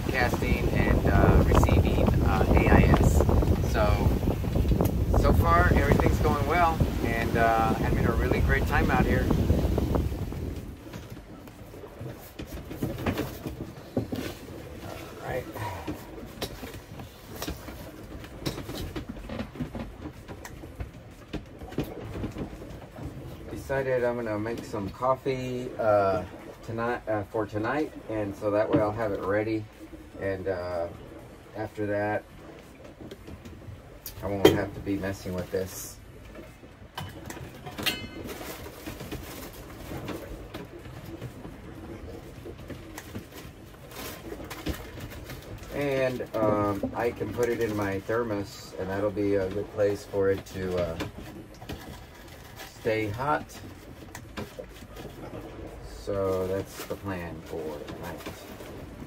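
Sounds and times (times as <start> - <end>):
low rumble aboard sailboat: 0.0 - 59.0
water rushing past boat: 0.0 - 59.0.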